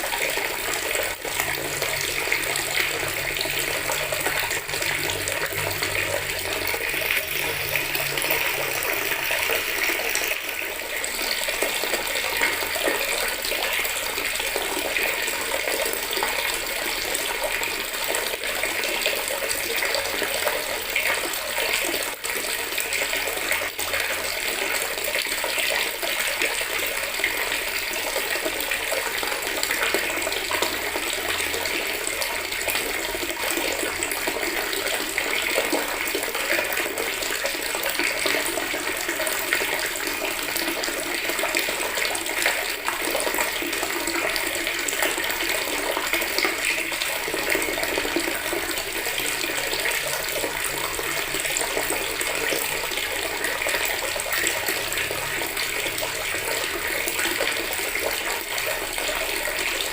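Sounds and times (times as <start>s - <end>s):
tap water running into bucket: 0.0s - 59.9s.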